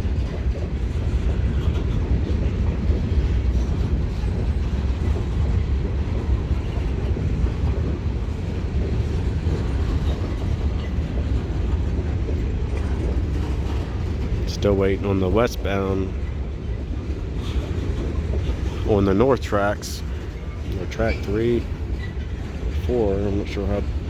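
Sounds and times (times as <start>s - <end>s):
freight train rumbling on rails: 0.0s - 24.0s.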